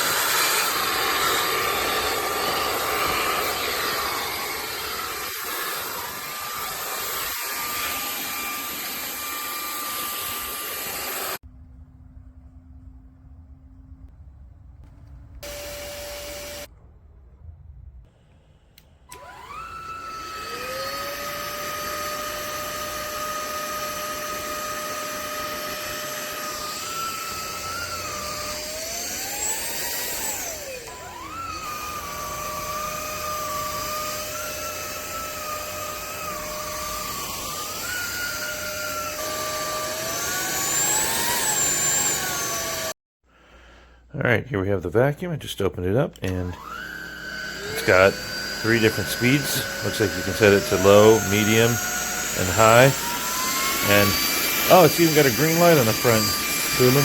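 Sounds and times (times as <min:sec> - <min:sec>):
stick vacuum motor whine: 0:00.0 - 0:11.4, 0:15.4 - 0:16.7, 0:18.7 - 0:43.0, 0:46.2 - 0:57.0.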